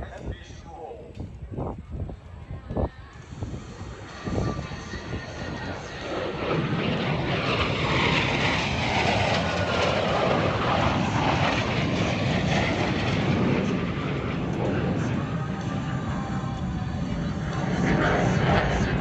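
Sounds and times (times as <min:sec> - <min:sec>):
airplane flying past: 0:03.3 - 0:19.0.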